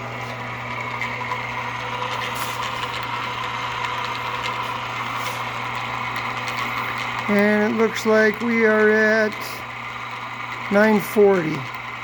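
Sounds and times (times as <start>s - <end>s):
milling spindle motor hum and whine: 0.0s - 12.0s.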